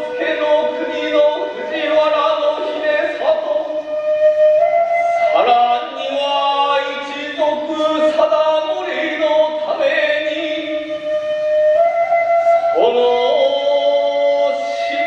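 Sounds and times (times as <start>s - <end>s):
chanted singing in long notes: 0.0s - 11.3s, 12.4s - 15.0s.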